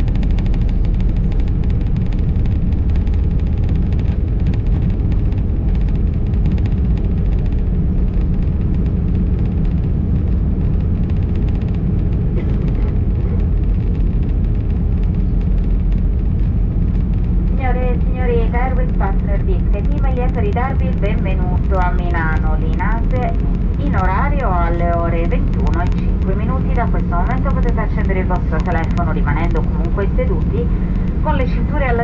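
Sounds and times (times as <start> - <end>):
wheels and engines rumbling: 0.0 - 32.0.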